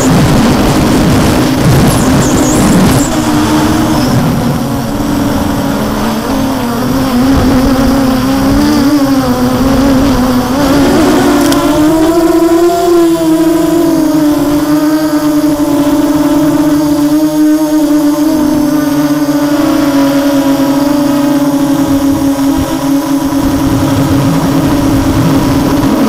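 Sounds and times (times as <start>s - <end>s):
quadcopter motors buzzing: 0.0s - 26.0s
rough rushing noise: 0.0s - 26.0s.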